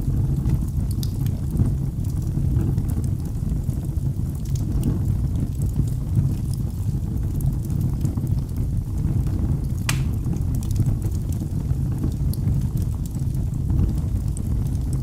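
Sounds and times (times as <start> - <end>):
fire burning in fireplace: 0.0 - 15.0
fire crackling and popping: 0.0 - 15.0.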